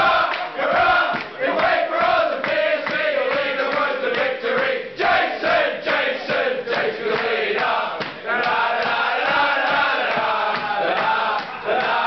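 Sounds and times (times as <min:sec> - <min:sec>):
football supporters chanting: 0:00.0 - 0:12.0.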